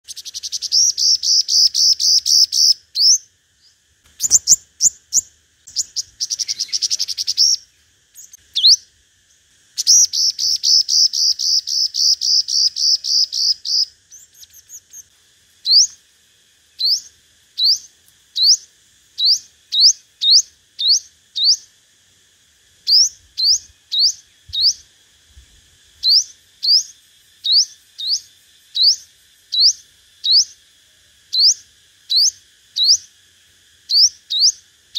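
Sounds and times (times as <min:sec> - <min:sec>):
bird singing trills and notes: 0:00.0 - 0:21.8, 0:22.8 - 0:30.6, 0:31.3 - 0:33.2, 0:33.9 - 0:34.7
faint insect drone: 0:00.0 - 0:34.9.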